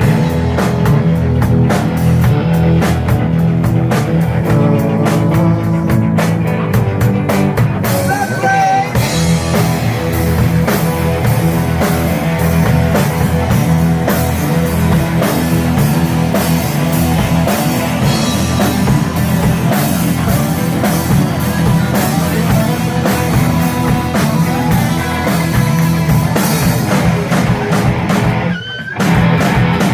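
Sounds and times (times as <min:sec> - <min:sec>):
bent guitar notes: 0:00.0 - 0:29.9
drum kit playing: 0:00.0 - 0:29.9.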